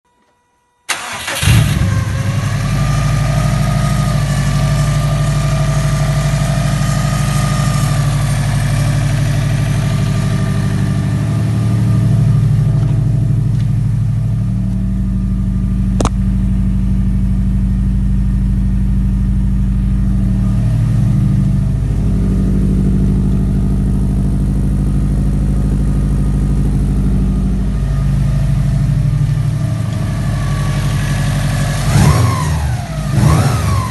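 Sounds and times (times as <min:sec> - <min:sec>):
car engine starting and idling: 0:00.9 - 0:33.9
high whine: 0:01.7 - 0:33.9.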